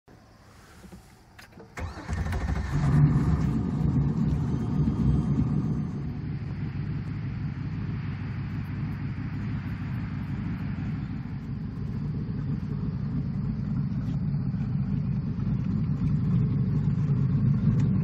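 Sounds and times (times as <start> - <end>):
boat engine starting and idling: 0.5 - 18.0.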